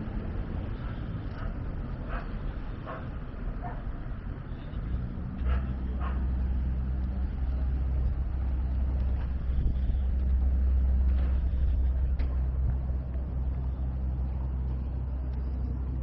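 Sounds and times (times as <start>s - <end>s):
large engine humming: 0.0s - 16.0s.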